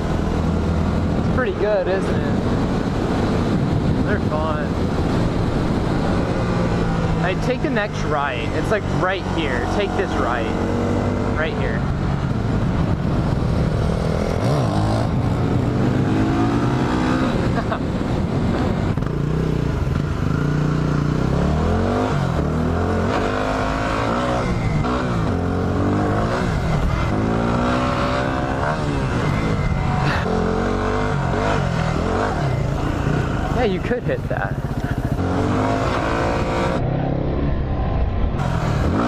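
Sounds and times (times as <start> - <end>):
motorcycle engine revving: 0.0 - 39.0
wind noise: 0.0 - 39.0.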